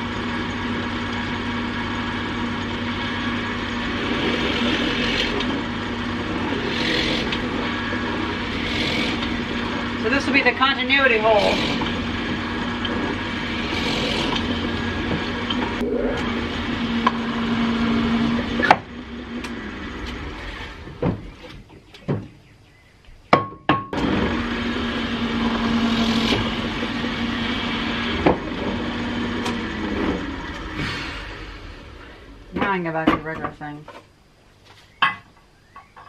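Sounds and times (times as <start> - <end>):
drill press motor humming: 0.0 - 21.6, 24.0 - 33.6.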